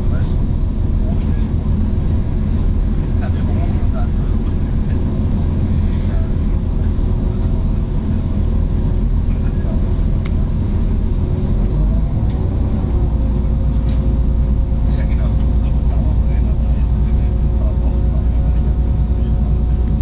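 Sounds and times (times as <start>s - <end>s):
diesel engine rumble: 0.0s - 20.0s
faint steady whine: 0.0s - 20.0s.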